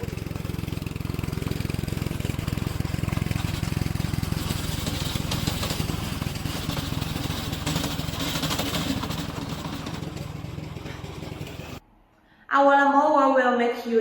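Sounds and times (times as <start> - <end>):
mower engine running: 0.0 - 11.8.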